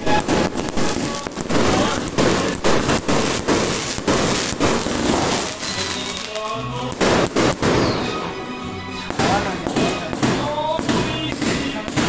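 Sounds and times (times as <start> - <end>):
fireworks banging: 0.0 - 12.0
music: 0.0 - 12.0.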